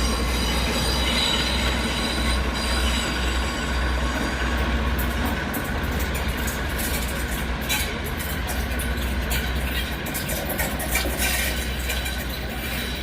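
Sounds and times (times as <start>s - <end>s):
diesel locomotive engine hum: 0.0s - 13.0s.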